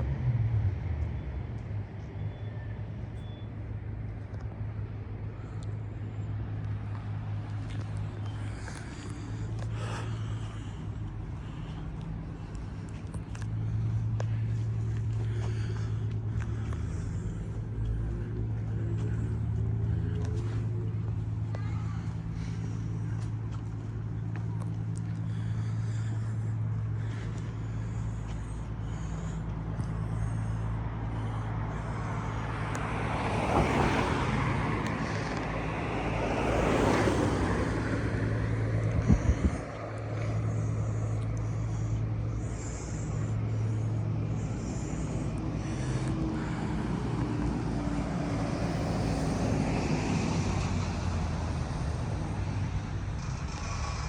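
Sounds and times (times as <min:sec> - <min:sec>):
vehicles passing: 0:00.0 - 0:54.0
steady low hum: 0:02.8 - 0:49.7.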